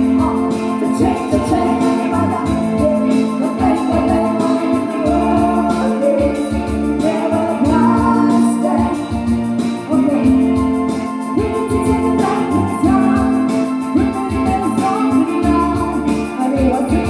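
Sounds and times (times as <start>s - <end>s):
instrumental music with steady beat: 0.0s - 17.0s
person singing: 0.0s - 17.0s.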